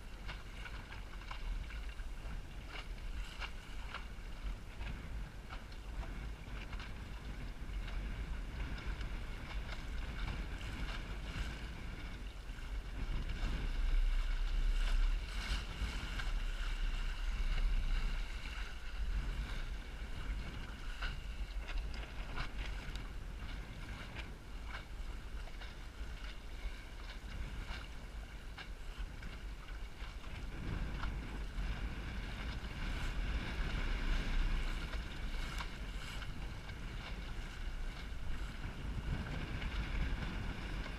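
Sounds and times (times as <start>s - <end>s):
rushing water: 0.0s - 40.9s
water splashing against hull: 0.0s - 40.9s
wind buffeting microphone: 0.0s - 40.9s.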